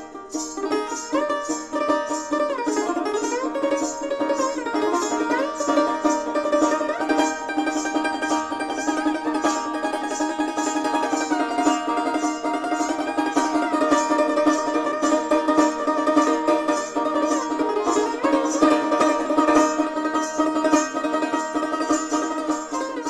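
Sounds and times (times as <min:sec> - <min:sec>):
even beat: 0:00.0 - 0:23.0
plucked-string melody: 0:00.0 - 0:23.0.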